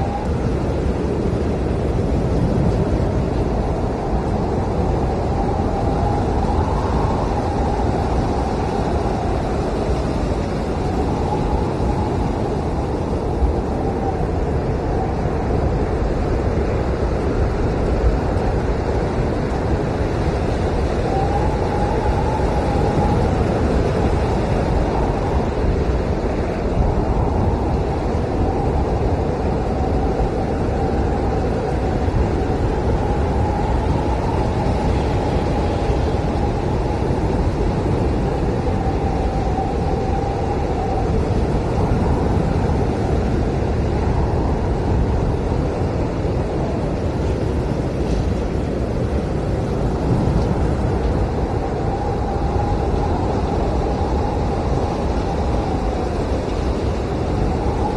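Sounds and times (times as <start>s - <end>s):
howling wind with whistle: 0.0s - 57.9s.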